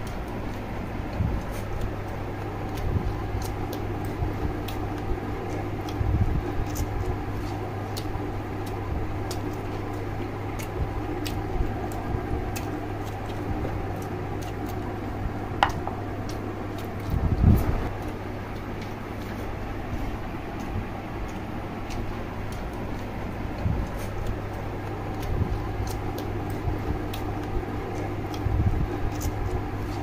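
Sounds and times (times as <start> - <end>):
chewing and lip-smacking: 0.0 - 30.0
steady low hum: 0.0 - 30.0.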